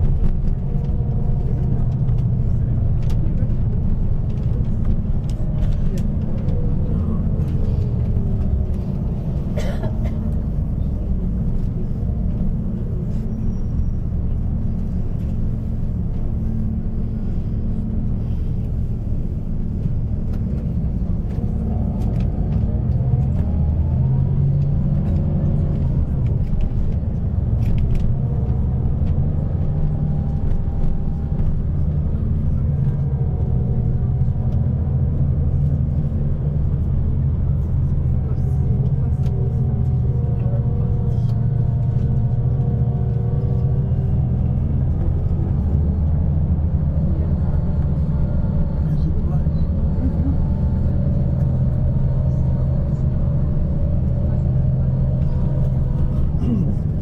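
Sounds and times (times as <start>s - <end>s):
bus engine droning: 0.0s - 57.0s
road noise: 0.0s - 57.0s.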